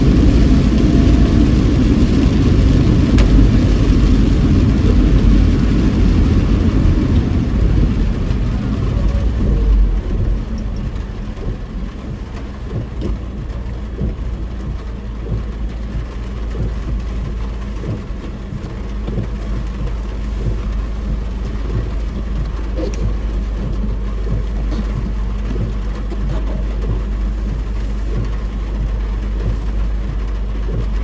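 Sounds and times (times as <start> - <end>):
car driving on wet road: 0.0 - 31.0
heavy rain on car roof: 0.0 - 31.0.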